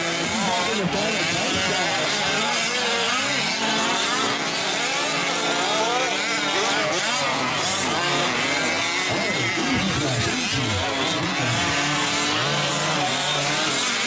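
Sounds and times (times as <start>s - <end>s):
rc truck engines revving: 0.0s - 14.0s.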